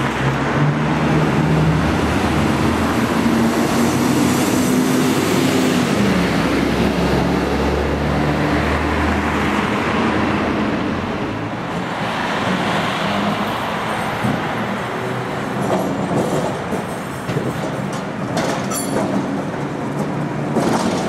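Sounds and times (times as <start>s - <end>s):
tram running on street tracks: 0.0s - 21.0s.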